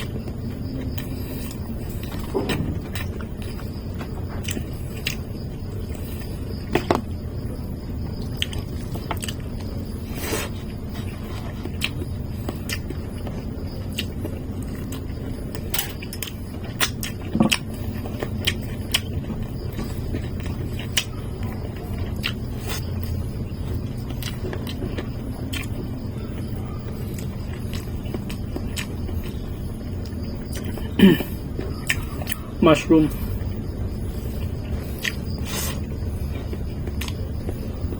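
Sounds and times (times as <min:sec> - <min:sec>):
chewing: 0:00.0 - 0:07.1, 0:08.0 - 0:37.9
steady low rumble: 0:00.0 - 0:37.9.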